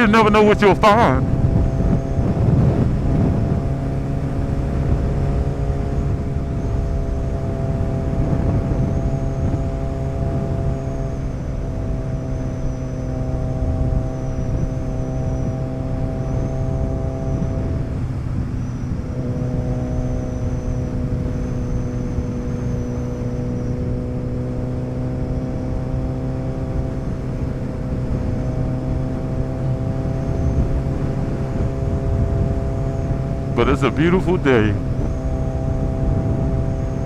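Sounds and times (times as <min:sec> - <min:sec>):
motorcycle engine running: 0:01.2 - 0:37.0.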